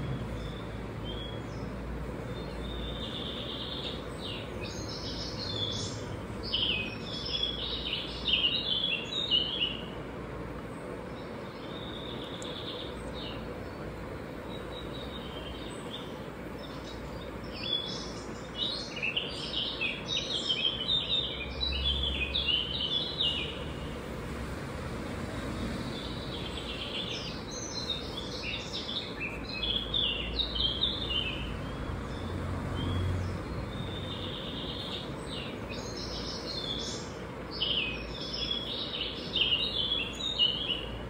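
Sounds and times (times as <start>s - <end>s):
low background noise: 0.0s - 41.0s
small birds chirping: 0.0s - 41.0s.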